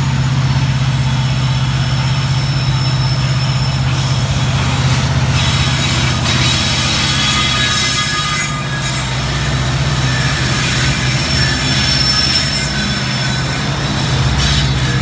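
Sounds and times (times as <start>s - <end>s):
diesel locomotive engine drone: 0.0s - 15.0s
faint high wheel squeals: 0.0s - 15.0s
wheels clattering on rails: 0.0s - 15.0s.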